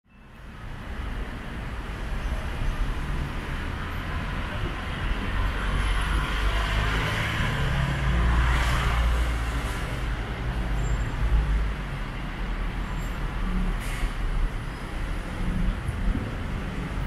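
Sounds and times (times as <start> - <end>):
passing vehicle engines: 1.0 - 17.0.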